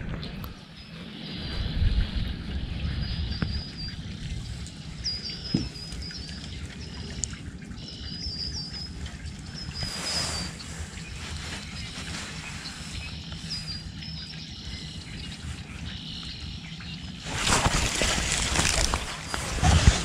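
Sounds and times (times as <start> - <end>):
low rumble on microphone: 0.0 - 20.0.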